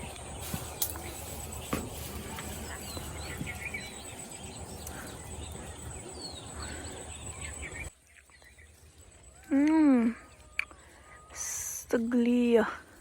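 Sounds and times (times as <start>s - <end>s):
bird chirps: 0.0s - 12.1s
outdoor rural background noise: 0.0s - 13.0s.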